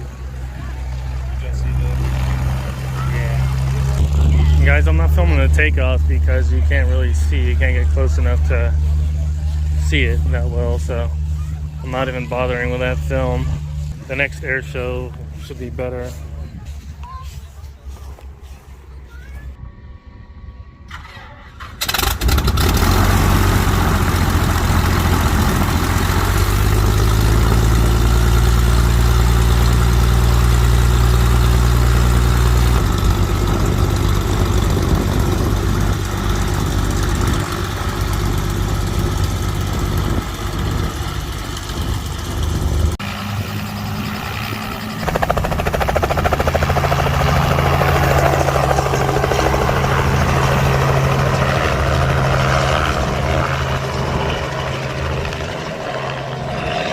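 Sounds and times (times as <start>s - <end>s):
helicopter rotor and engine: 0.0s - 18.2s, 20.9s - 56.9s.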